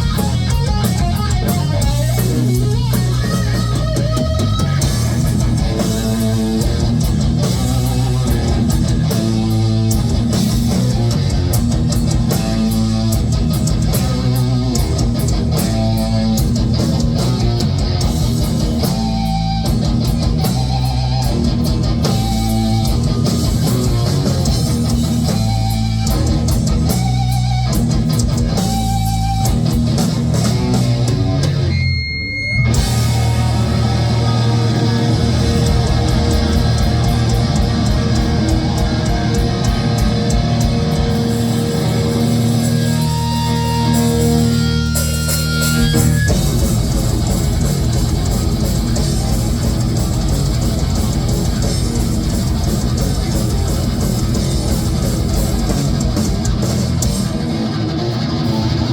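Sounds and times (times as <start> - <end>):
bass guitar: 0.0 - 58.9
distorted electric guitars: 0.0 - 58.9
drums: 0.0 - 58.9.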